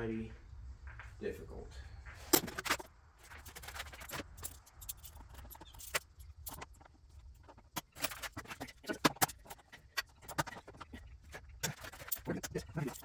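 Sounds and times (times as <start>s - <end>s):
hand tools clicking and knocking: 2.3s - 13.0s.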